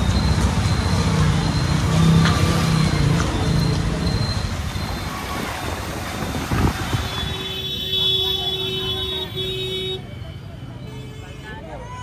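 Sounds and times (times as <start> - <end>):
street traffic road noise: 0.0 - 12.0.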